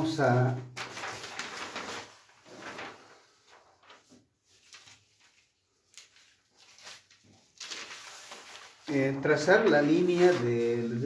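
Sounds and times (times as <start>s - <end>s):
paper sheets rustling and sliding: 0.0s - 11.0s.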